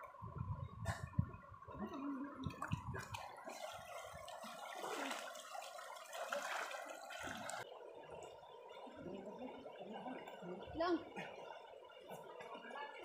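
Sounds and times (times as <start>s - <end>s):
stream water splashing: 1.5s - 13.0s.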